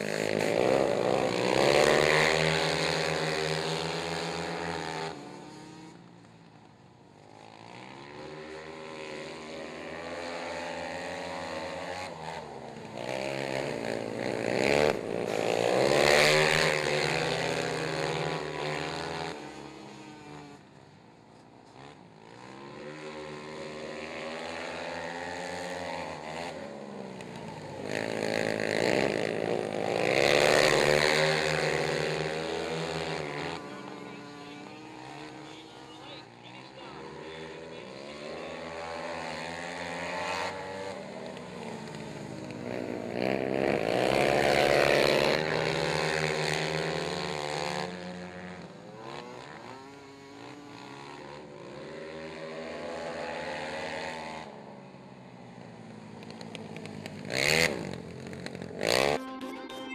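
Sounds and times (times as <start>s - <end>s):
quad engines racing: 0.0s - 59.9s.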